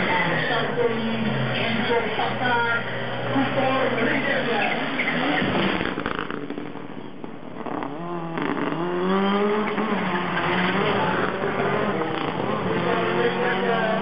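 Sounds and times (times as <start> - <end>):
racing car engine revving: 0.0 - 14.0.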